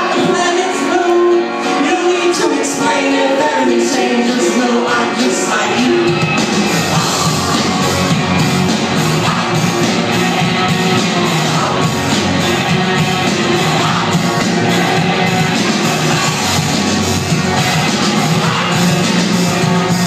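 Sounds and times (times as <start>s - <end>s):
live rock band playing loudly: 0.0s - 20.0s.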